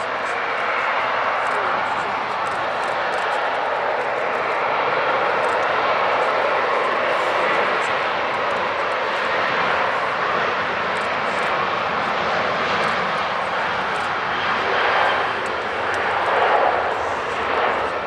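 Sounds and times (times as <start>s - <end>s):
jet engines at taxi power: 0.0s - 18.0s.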